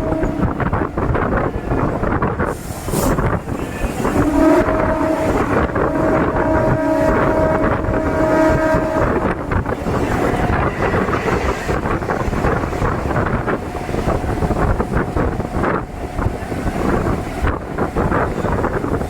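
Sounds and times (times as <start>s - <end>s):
train rail noise: 0.0s - 19.0s
wind buffeting microphone: 0.0s - 19.0s.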